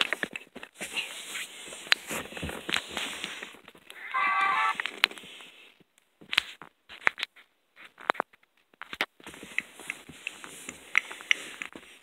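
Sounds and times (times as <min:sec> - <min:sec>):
handling rustle: 0:00.0 - 0:03.9, 0:04.8 - 0:12.0.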